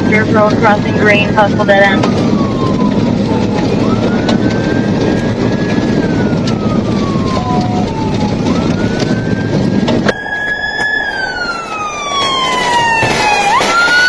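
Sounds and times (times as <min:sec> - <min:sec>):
police siren wailing: 0:00.0 - 0:14.0
road and engine noise: 0:00.0 - 0:14.0.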